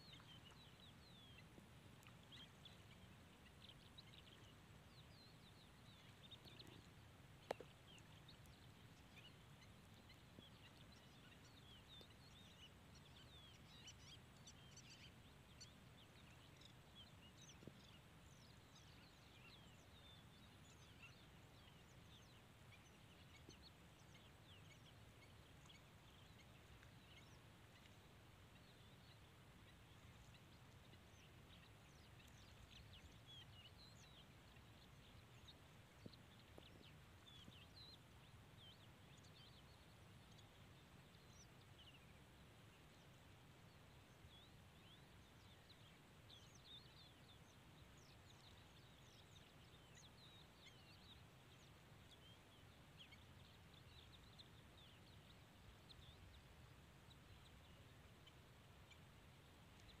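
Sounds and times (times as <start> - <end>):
low background hiss: 0.0 - 60.0
small birds chirping: 0.0 - 60.0.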